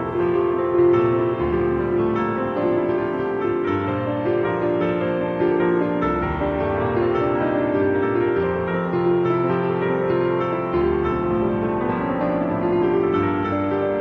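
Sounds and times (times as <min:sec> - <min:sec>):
piano instrumental music: 0:00.0 - 0:14.0.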